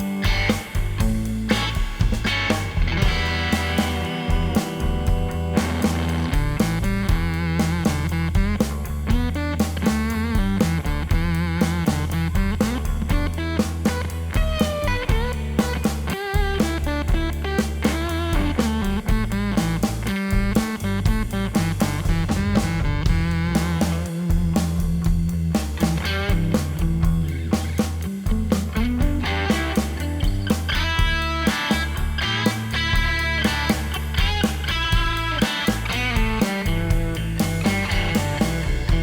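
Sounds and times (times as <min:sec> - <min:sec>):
distorted electric guitar riff: 0:00.0 - 0:39.0
drum beat: 0:00.0 - 0:39.0.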